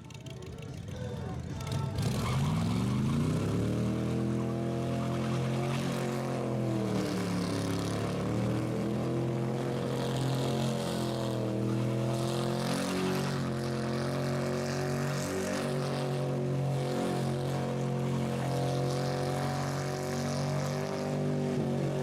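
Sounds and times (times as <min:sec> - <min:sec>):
car engine at high revs: 0:01.6 - 0:22.0.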